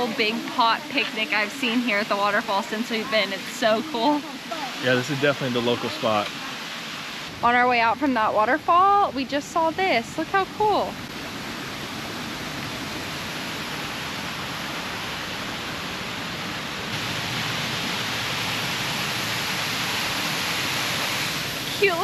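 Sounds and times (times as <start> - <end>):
rushing falling water: 0.0 - 22.0.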